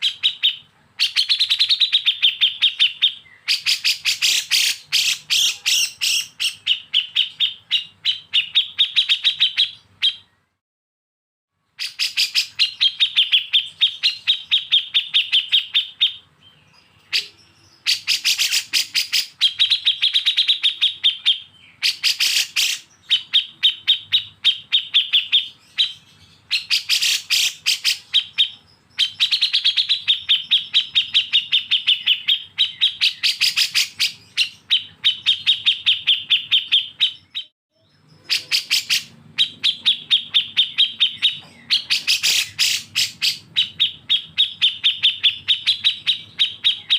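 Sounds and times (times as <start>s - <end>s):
songbird chattering: 0.0s - 10.4s, 11.8s - 46.9s.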